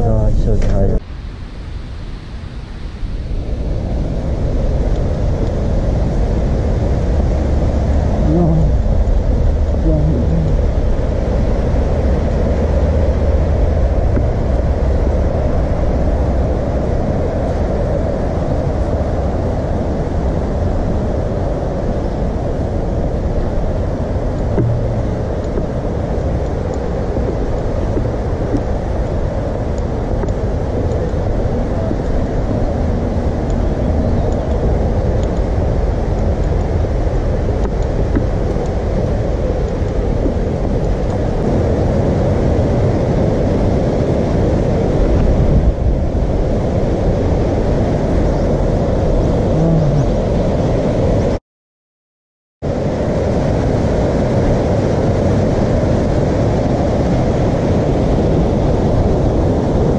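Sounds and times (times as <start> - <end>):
bus engine and road rumble: 0.0 - 1.1, 2.8 - 51.4.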